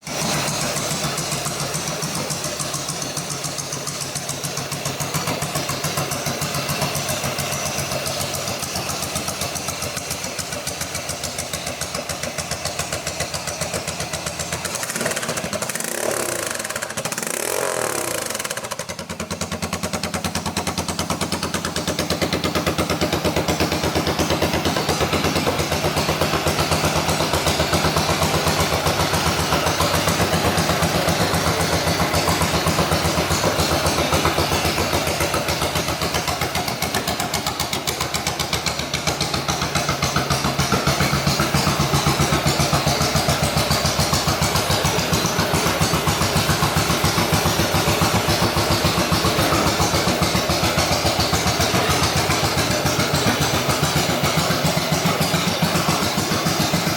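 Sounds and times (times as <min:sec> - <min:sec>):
motorcycle engine at low revs: 0:00.0 - 0:56.9.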